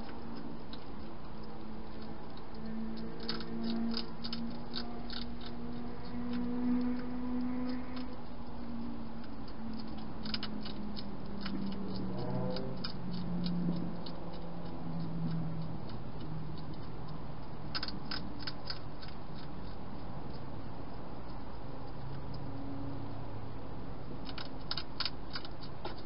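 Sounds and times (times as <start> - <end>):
hedgehog crunching dry food: 0.0 - 26.0.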